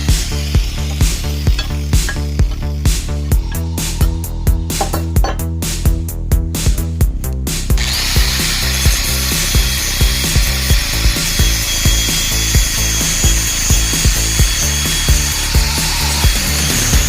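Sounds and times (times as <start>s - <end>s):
angle grinder cutting metal tube: 0.0s - 5.6s, 7.7s - 17.0s
music with a steady beat: 0.0s - 17.0s.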